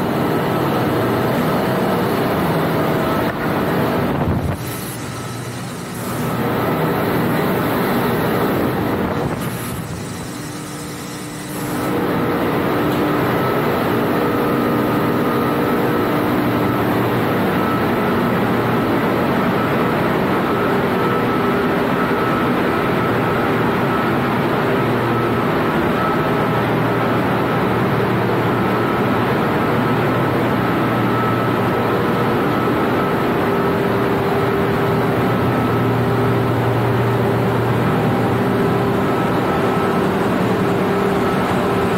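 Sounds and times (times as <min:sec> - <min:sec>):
engine room machinery noise: 0:00.0 - 0:41.9.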